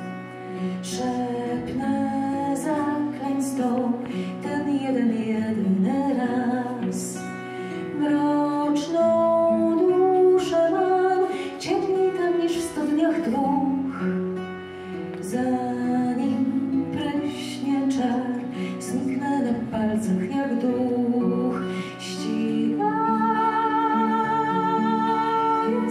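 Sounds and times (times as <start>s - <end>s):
acoustic guitar: 0.0s - 25.9s
woman singing: 0.0s - 25.9s.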